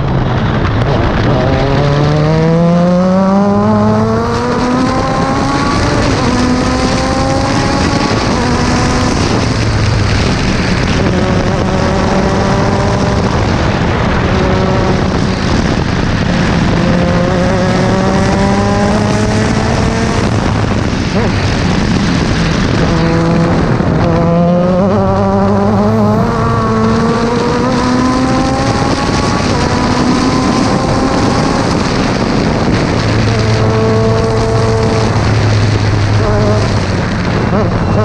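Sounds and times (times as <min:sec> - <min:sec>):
heavy wind rush: 0:00.0 - 0:38.0
race car engine accelerating: 0:00.0 - 0:38.0.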